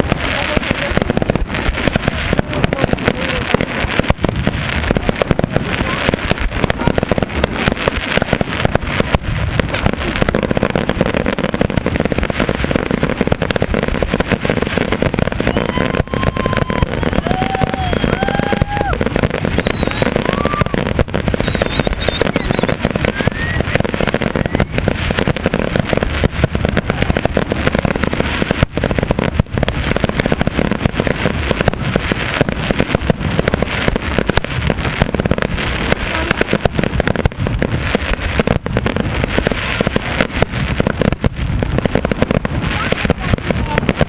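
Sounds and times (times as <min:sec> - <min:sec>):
fireworks bangs and crackle: 0:00.0 - 0:44.0.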